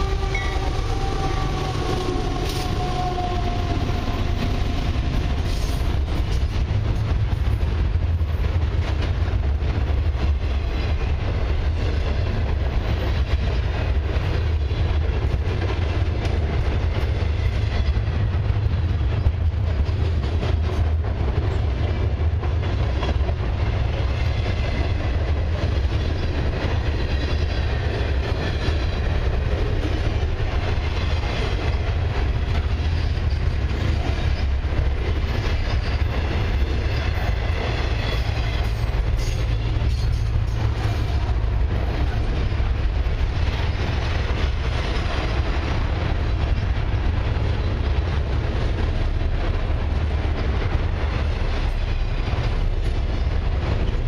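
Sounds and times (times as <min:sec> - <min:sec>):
train wheels on rail: 0:00.0 - 0:54.0.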